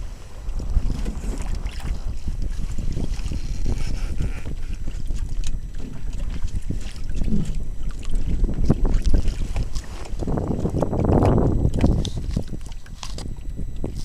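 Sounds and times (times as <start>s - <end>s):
water washing against hull: 0.0s - 14.0s
wind buffeting microphone: 0.0s - 14.0s.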